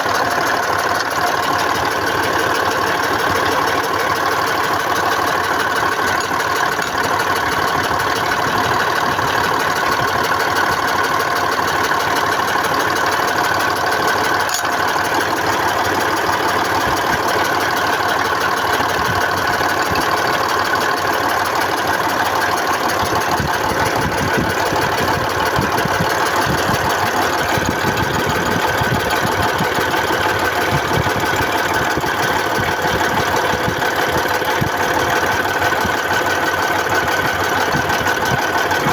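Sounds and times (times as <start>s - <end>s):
diesel engine idling: 0.0s - 38.9s
engine knocking: 0.0s - 38.9s.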